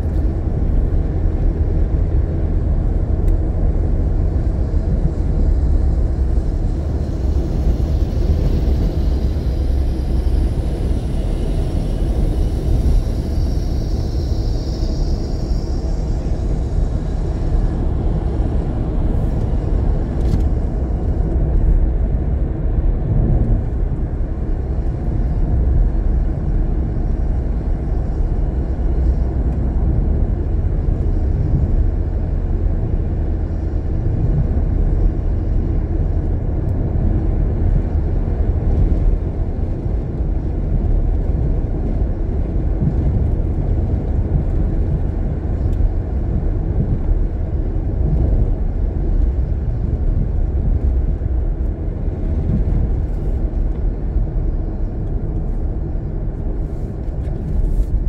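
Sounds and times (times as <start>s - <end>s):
car tyre and engine rumble: 0.0s - 58.0s.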